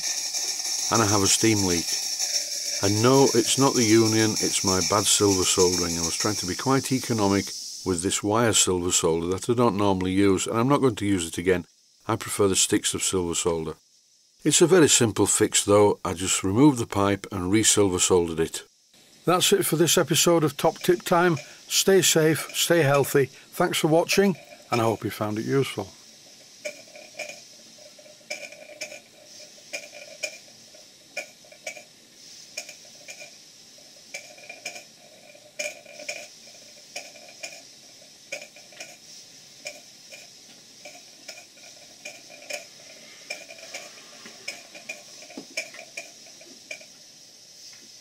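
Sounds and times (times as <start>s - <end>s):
faint steam hiss: 0.0s - 48.0s.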